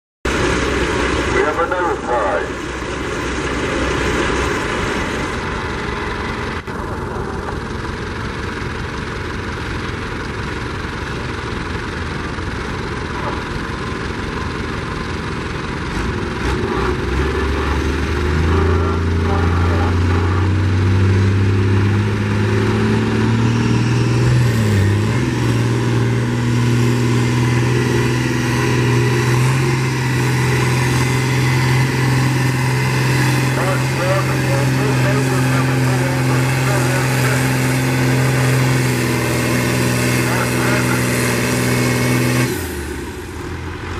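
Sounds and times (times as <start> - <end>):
tractor engine: 0.2 - 43.9.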